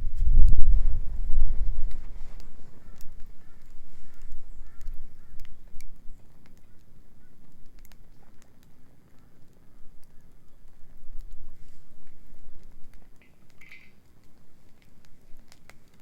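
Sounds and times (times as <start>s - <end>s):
bonfire crackling and popping: 0.0s - 16.0s
low wind rumble: 0.0s - 16.0s.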